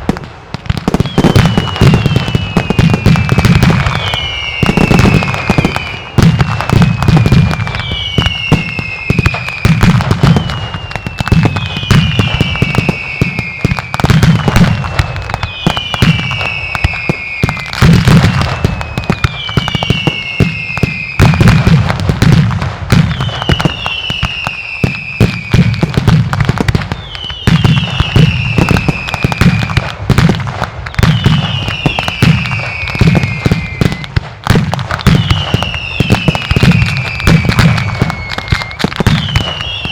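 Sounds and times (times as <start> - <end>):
firecrackers banging and crackling: 0.0 - 39.9
falling whistle: 1.0 - 21.4, 23.1 - 25.8, 27.0 - 29.8, 31.1 - 34.1, 35.2 - 39.9.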